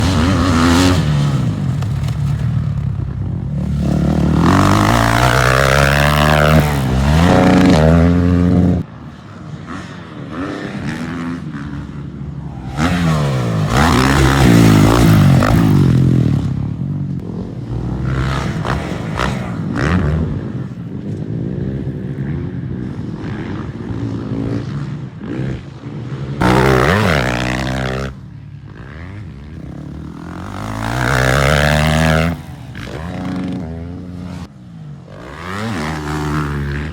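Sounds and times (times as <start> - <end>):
dirt bike engines revving: 0.0 - 36.9.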